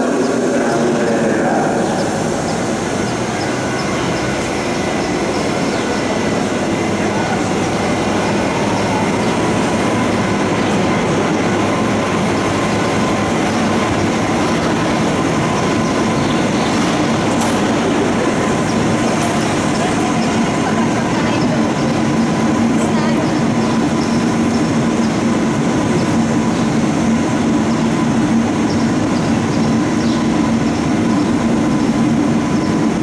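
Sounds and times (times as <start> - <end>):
train station din: 0.0 - 33.0.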